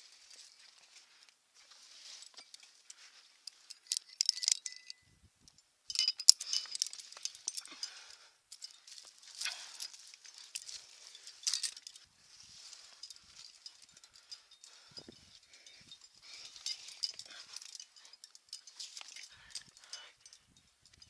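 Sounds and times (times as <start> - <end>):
metal climbing gear clinking: 0.0 - 21.0.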